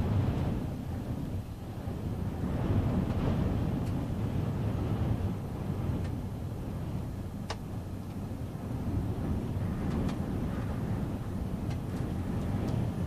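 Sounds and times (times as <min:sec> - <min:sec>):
gusty wind buffeting a car: 0:00.0 - 0:13.0.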